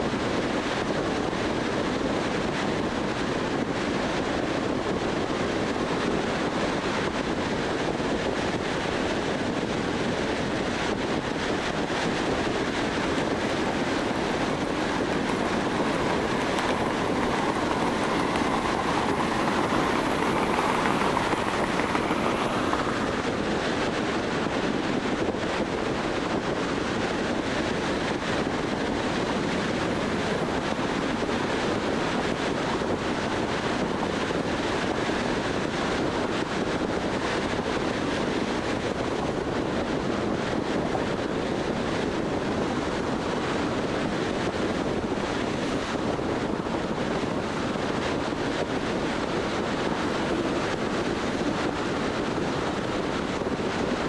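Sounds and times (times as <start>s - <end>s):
car tyre and wind noise: 0.0s - 54.0s.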